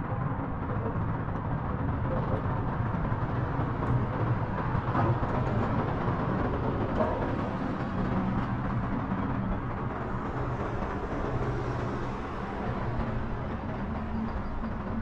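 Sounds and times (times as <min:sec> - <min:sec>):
cable car rumble and hiss: 0:00.0 - 0:15.0.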